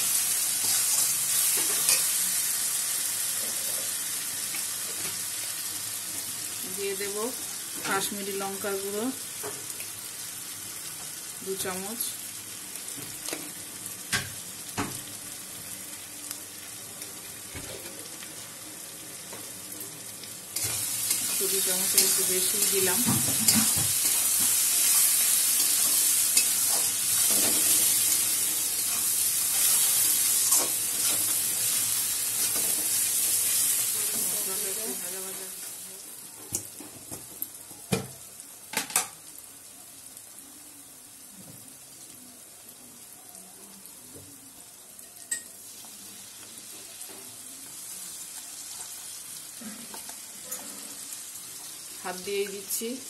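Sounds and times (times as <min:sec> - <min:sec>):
masala sizzling in hot oil: 0:00.0 - 0:53.0.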